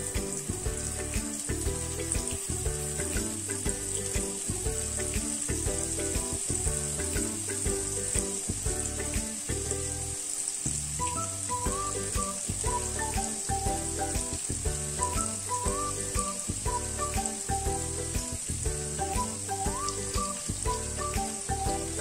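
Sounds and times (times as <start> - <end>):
background music: 0.0 - 22.0
cheese sizzling in hot oil: 0.0 - 22.0.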